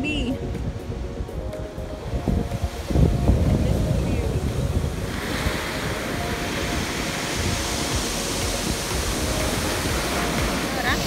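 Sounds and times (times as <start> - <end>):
surf washing over pebble beach: 0.4 - 11.0.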